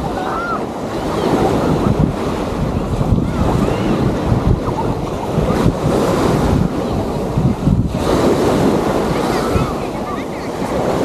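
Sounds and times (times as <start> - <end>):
surf washing on beach: 0.0 - 11.0
wind gusting on microphone: 0.0 - 11.0.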